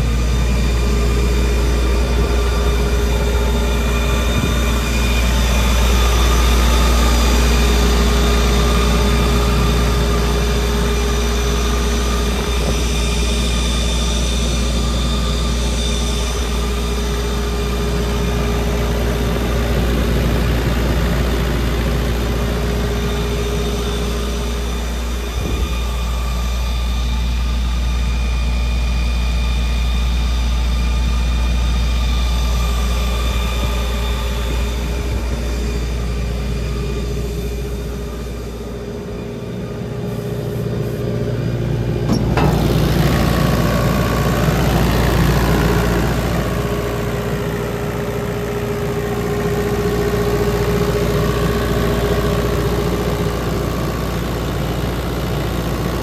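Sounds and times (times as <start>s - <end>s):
diesel generator running: 0.0s - 56.0s.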